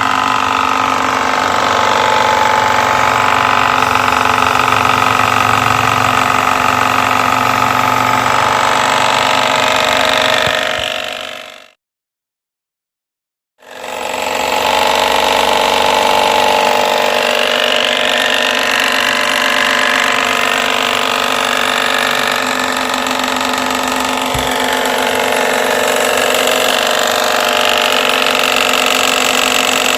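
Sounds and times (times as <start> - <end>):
pressure washer running: 0.0 - 11.8, 13.6 - 29.9.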